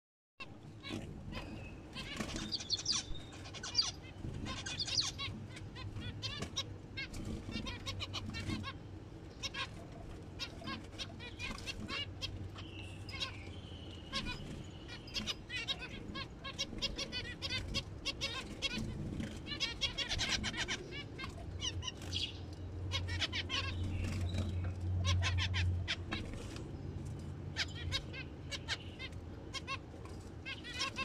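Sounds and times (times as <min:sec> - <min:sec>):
finches chirping: 0:00.7 - 0:26.5.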